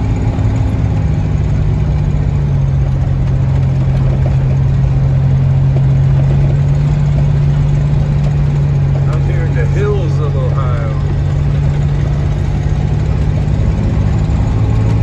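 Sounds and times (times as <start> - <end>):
pickup engine running: 0.0 - 15.0.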